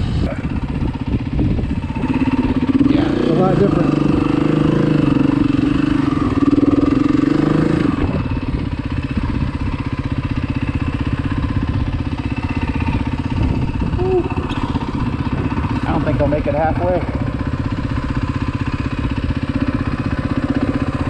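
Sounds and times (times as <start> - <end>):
dirt bike engine revving and idling: 0.0 - 21.0.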